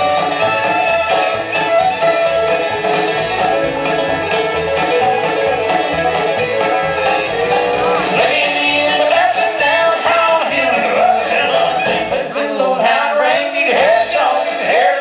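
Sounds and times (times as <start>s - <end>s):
fiddle: 0.0s - 12.2s
banjo: 0.0s - 15.0s.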